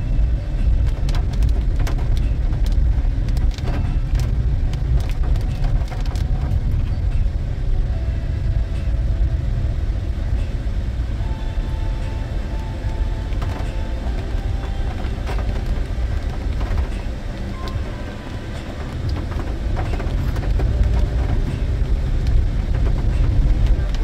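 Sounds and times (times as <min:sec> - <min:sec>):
engine and road rumble: 0:00.0 - 0:24.0
raindrops tapping on windshield: 0:00.0 - 0:24.0.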